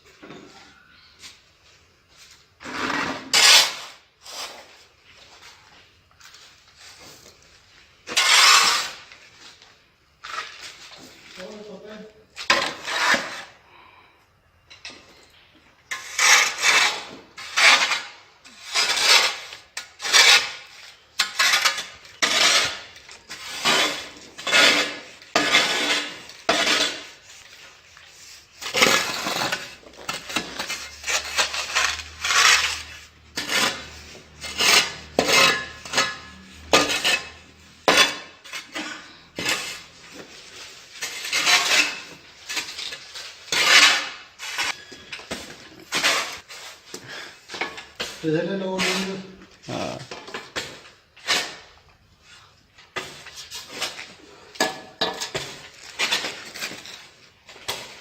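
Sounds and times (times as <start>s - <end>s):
trowel scraping over tile: 2.3s - 9.6s, 10.2s - 11.8s, 12.4s - 13.6s, 15.1s - 58.0s.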